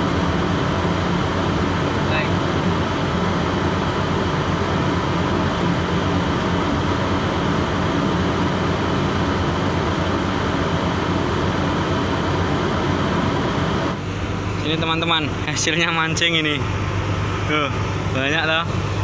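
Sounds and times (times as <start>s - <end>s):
ship engine droning: 0.0s - 19.0s.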